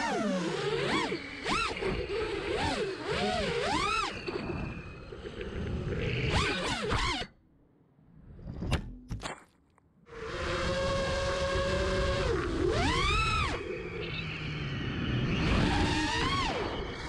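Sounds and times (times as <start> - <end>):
drone motors whining: 0.0 - 7.4, 10.1 - 17.0.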